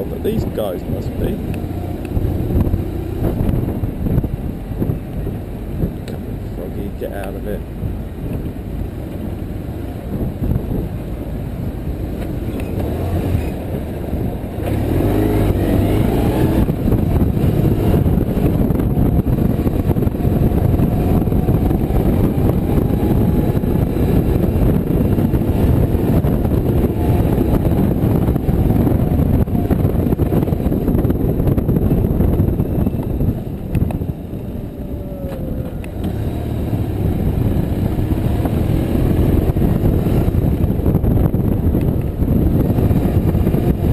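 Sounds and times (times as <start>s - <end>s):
wind rushing: 0.0s - 6.0s, 12.9s - 43.9s
motorcycle engine running: 0.0s - 43.9s.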